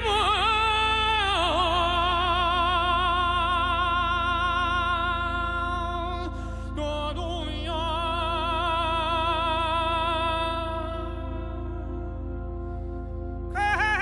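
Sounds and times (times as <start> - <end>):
high wordless singing voice: 0.0 - 14.0
low steady drone: 0.0 - 14.0.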